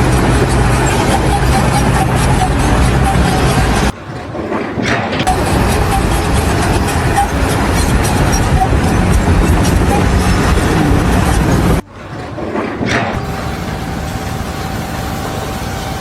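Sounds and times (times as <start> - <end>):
loud steady rumbling: 0.0 - 16.0.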